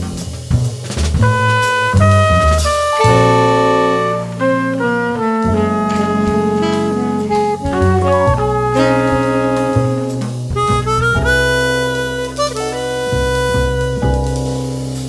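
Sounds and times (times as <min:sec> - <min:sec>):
drums: 0:00.0 - 0:15.0
piano: 0:00.0 - 0:15.0
upright bass: 0:00.0 - 0:15.0
horns and harmonica in harmony: 0:01.6 - 0:14.0.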